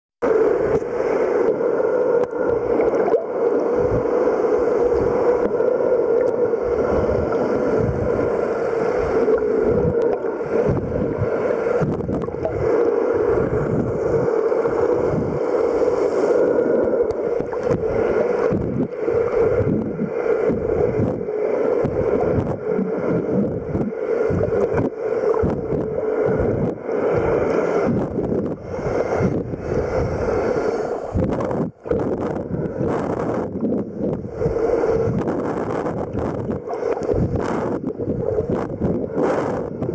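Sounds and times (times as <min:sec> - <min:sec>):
underwater droning hum: 0:00.2 - 0:39.9
water sloshing and rumbling: 0:00.2 - 0:39.9.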